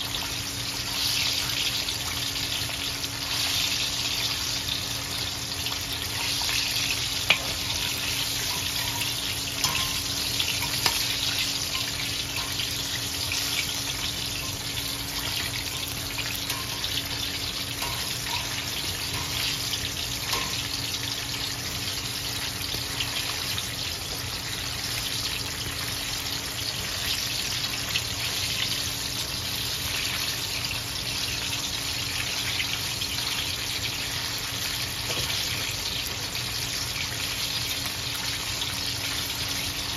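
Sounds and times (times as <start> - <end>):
chicken wings deep-frying in oil: 0.0 - 39.9.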